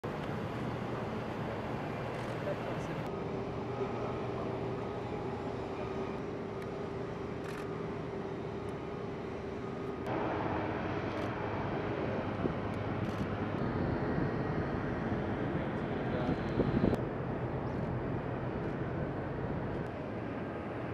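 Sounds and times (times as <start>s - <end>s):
distant engine drone: 0.0s - 20.9s
outdoor background noise: 0.0s - 20.9s.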